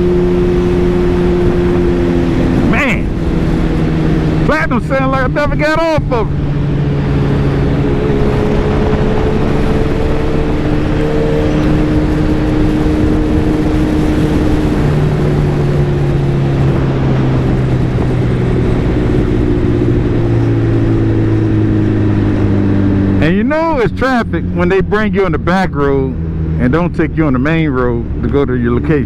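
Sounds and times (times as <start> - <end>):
wind rush: 0.0 - 23.9
motorcycle engine cruising: 0.0 - 29.0.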